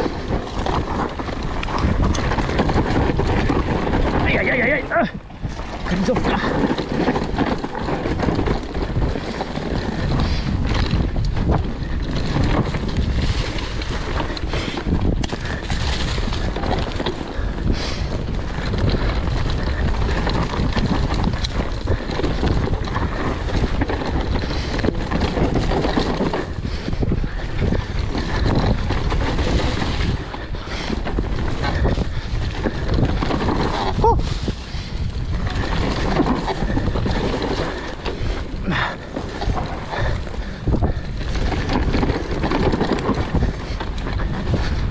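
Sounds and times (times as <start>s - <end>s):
mountain bike rattling on dirt trail: 0.0s - 44.9s
wind rushing over microphone: 0.0s - 44.9s.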